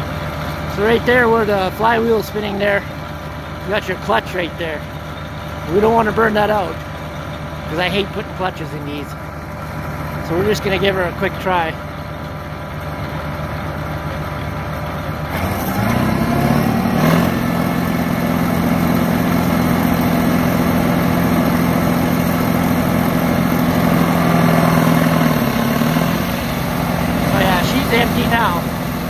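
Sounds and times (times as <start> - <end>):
combine harvester running: 0.0 - 29.0
threshing rotors humming: 0.0 - 29.0.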